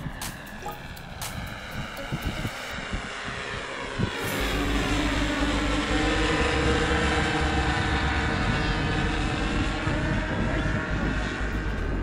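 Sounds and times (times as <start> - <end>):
model aircraft engines buzzing: 0.8 - 12.0.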